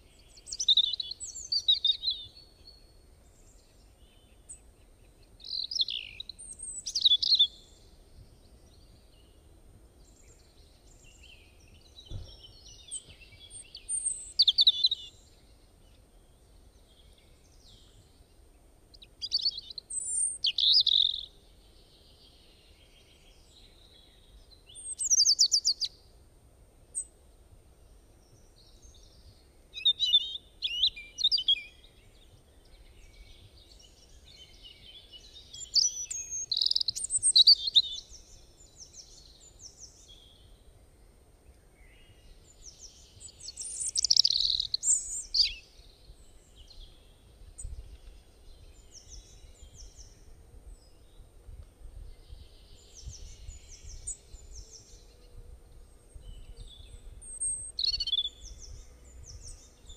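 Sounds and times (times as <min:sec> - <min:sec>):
songbirds chirping and singing: 0:00.0 - 0:26.1, 0:27.8 - 0:59.9.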